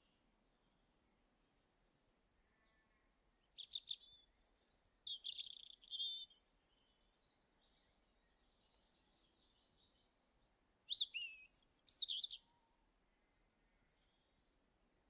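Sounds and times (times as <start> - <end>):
songbird chirping and trilling: 2.2 - 14.5.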